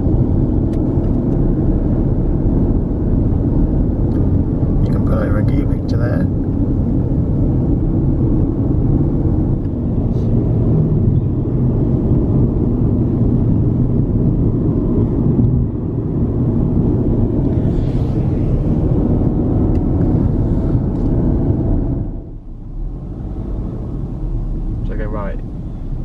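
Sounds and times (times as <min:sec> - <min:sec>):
road and engine rumble in car: 0:00.0 - 0:26.0.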